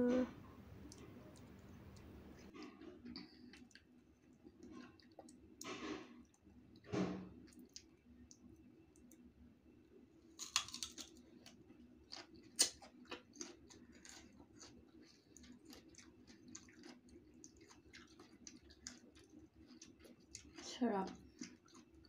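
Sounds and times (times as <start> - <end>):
chewing crisp mango: 0.7 - 9.3, 10.4 - 22.0.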